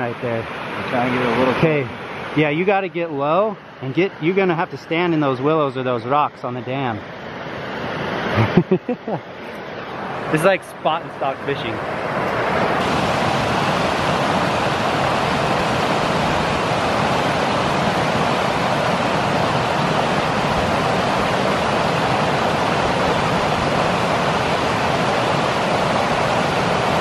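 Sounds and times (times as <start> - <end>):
creek water rushing over rocks: 0.0 - 8.6, 9.2 - 27.0.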